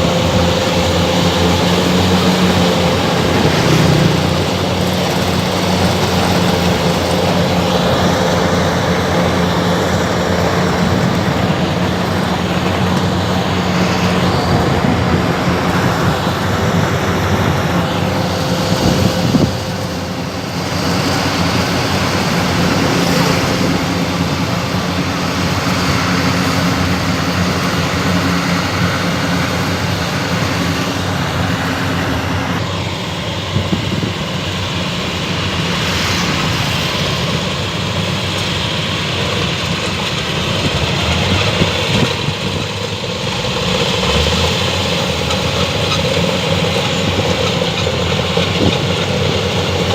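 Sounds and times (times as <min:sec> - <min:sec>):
combine harvester engine drone: 0:00.0 - 0:49.9
cutting and threshing machinery: 0:00.0 - 0:49.9.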